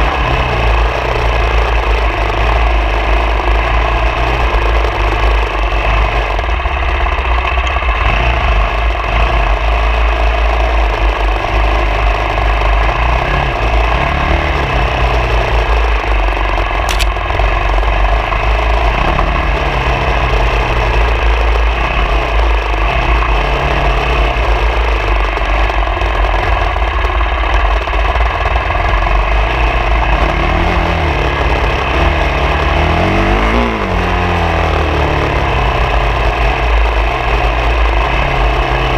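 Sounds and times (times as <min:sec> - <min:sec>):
motorcycle engine revving: 0:00.0 - 0:38.9
rush of noise: 0:00.0 - 0:38.9.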